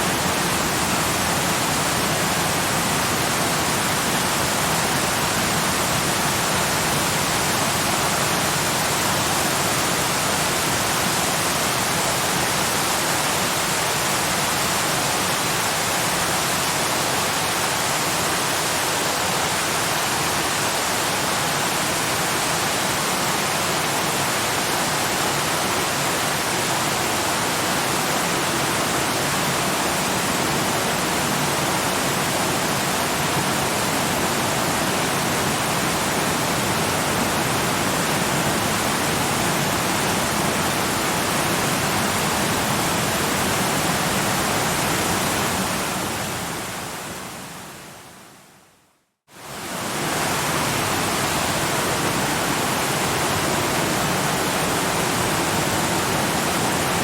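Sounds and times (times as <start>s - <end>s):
waterfall rushing: 0.0s - 47.8s, 49.4s - 57.0s.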